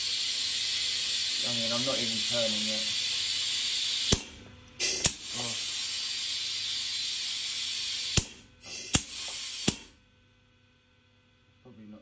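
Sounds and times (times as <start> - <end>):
compressed air hissing: 0.0 - 10.0.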